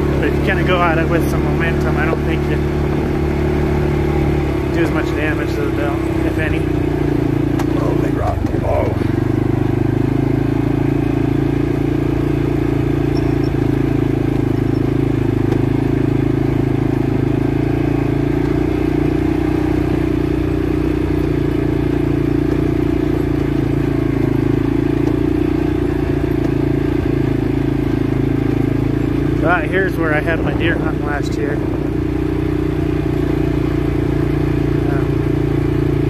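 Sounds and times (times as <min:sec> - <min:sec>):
atv engine running: 0:00.0 - 0:36.0.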